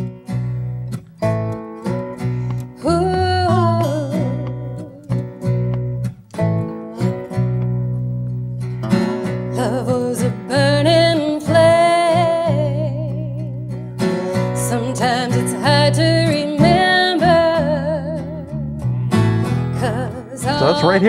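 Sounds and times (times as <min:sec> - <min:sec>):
bass: 0:00.0 - 0:21.0
lap steel guitar melody: 0:00.0 - 0:21.0
strummed acoustic guitar: 0:00.0 - 0:21.0.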